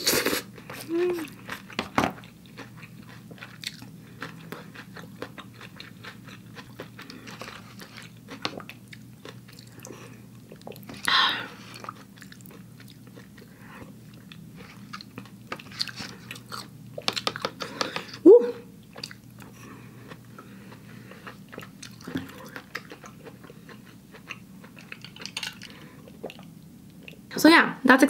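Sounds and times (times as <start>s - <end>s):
person chewing noodles: 0.0s - 18.2s, 18.8s - 27.2s
faint steady hum: 0.0s - 28.0s.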